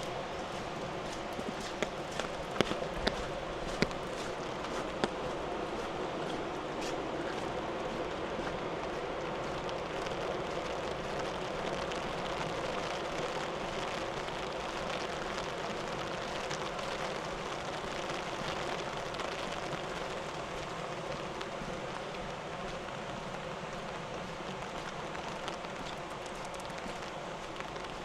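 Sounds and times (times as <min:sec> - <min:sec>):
rain pattering: 0:00.0 - 0:28.0
rushing floodwater: 0:00.0 - 0:28.0.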